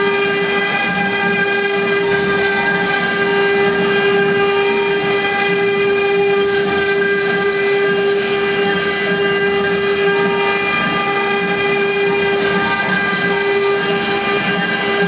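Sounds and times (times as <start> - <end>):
router spindle whining: 0.0 - 15.0.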